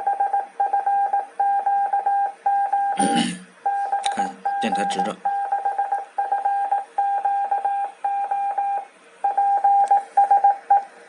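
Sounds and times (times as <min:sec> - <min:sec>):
morse code beeps: 0:00.0 - 0:03.0, 0:03.7 - 0:10.8.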